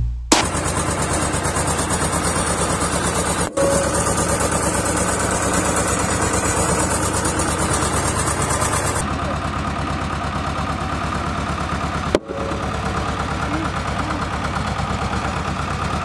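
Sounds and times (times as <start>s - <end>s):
diesel engine throbbing: 0.0s - 16.0s.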